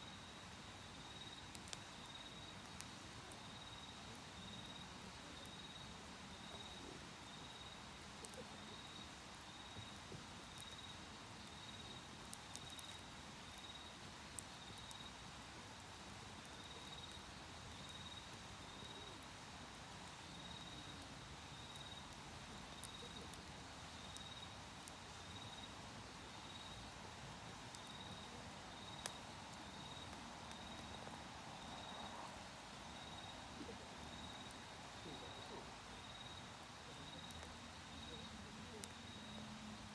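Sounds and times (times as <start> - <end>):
insect chirping: 0.0 - 2.8, 3.4 - 7.8, 10.5 - 15.3, 16.5 - 19.2, 20.2 - 26.9, 27.8 - 38.4, 39.0 - 39.4
campfire crackling and popping: 0.0 - 39.9.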